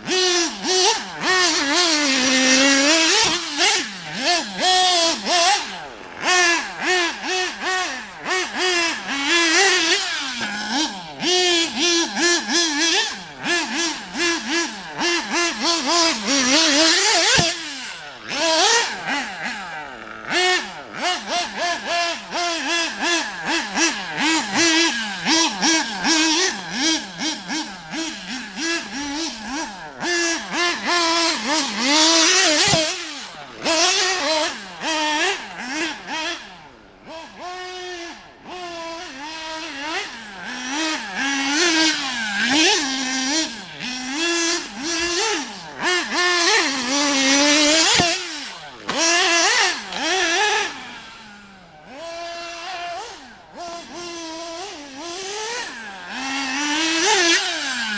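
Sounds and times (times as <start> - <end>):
nitro rc car engine revving: 0.0 - 57.9.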